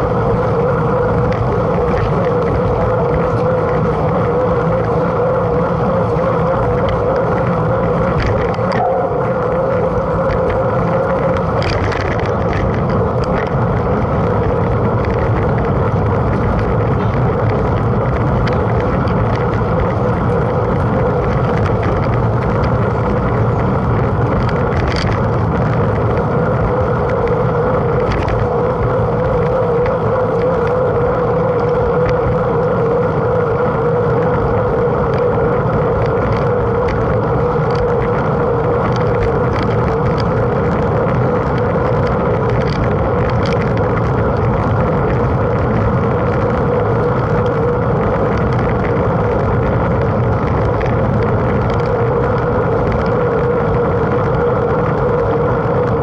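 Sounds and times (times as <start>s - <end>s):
bike tyres rolling: 0.0s - 56.0s
droning hum: 0.0s - 56.0s
wind on microphone: 0.0s - 56.0s.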